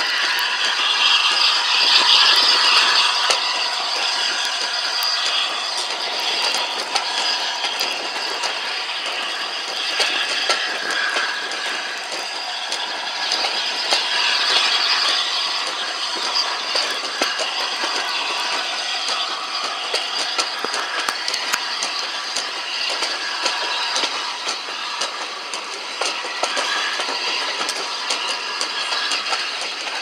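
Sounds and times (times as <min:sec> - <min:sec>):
carriages rattling: 0:00.0 - 0:30.0
train wheels on rails: 0:00.0 - 0:30.0
wheels clicking over track: 0:00.0 - 0:30.0.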